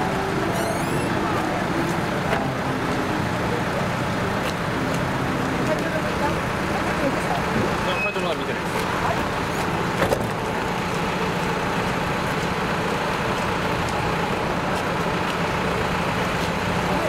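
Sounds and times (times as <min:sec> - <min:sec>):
diesel truck engines idling: 0:00.0 - 0:17.0
outdoor background noise: 0:00.0 - 0:17.0.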